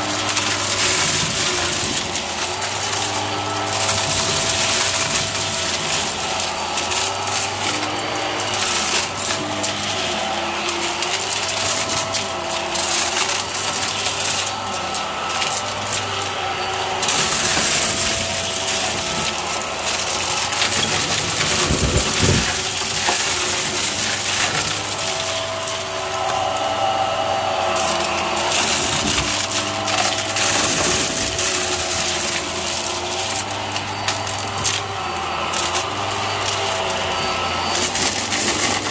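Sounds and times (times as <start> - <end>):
debris rattling through nozzle: 0.0 - 38.9
vacuum motor hum: 0.0 - 38.9.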